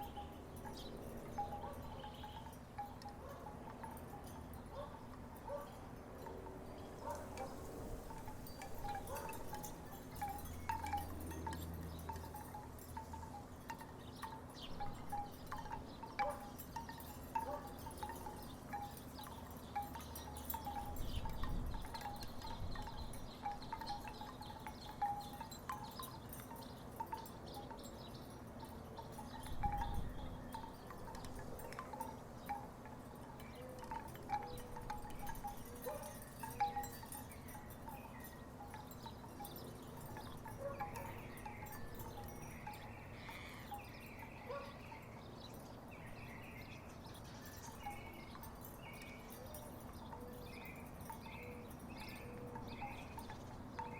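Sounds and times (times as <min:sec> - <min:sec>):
wooden wind chimes knocking: 0:08.1 - 0:44.6, 0:45.4 - 0:53.9.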